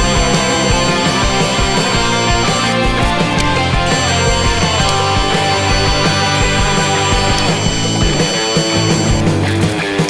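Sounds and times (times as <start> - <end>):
rock music with distorted guitars: 0.0 - 10.0
steady drum beat: 0.0 - 10.0.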